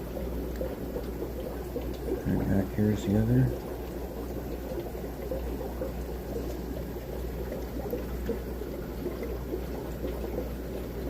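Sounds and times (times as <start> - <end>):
aquarium water bubbling: 0.0 - 11.0
constant low hum: 0.0 - 11.0.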